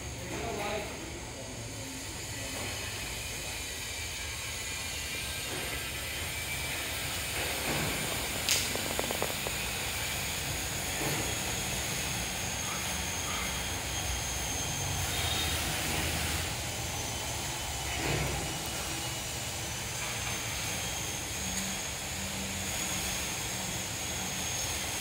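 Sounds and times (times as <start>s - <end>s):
hiss: 1.5s - 25.0s.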